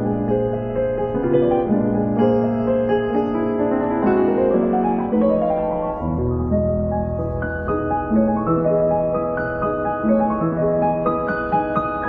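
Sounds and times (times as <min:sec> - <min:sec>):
soft slow piano music: 0:00.0 - 0:12.0.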